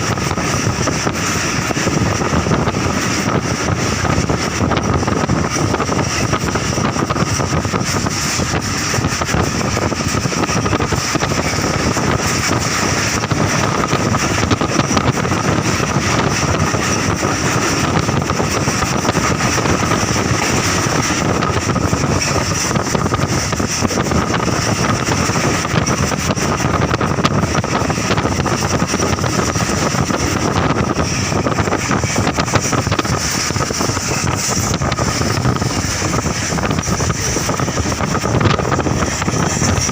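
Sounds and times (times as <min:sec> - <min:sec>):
passenger train rumbling: 0:00.0 - 0:39.9
wind buffeting microphone: 0:00.0 - 0:39.9.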